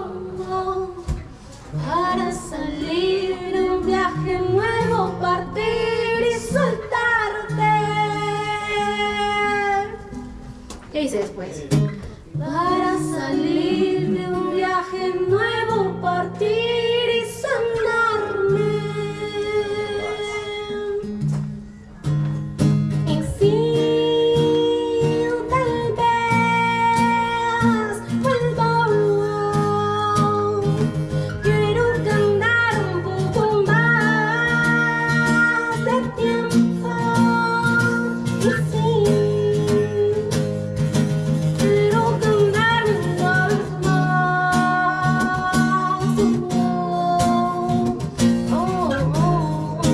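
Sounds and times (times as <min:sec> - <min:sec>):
woman singing: 0:00.0 - 0:10.4, 0:12.3 - 0:21.3, 0:23.0 - 0:49.9
acoustic guitar: 0:00.0 - 0:49.9.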